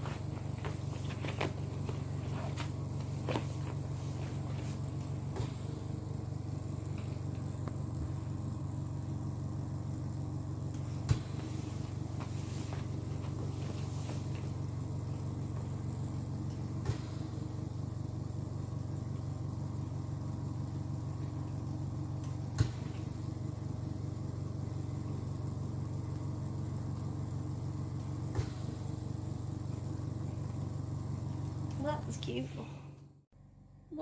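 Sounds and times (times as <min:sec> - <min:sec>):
low motor hum: 0:00.0 - 0:34.0.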